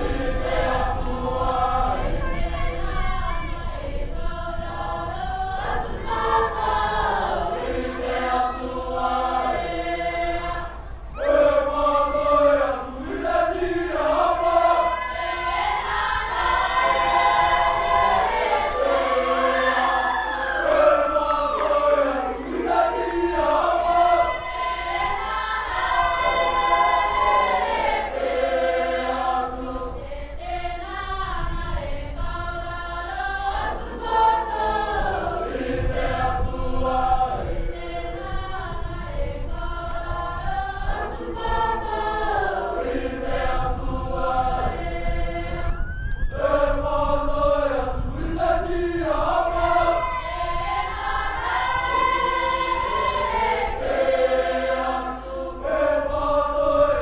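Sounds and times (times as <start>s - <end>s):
choir singing unaccompanied: 0.0s - 57.0s.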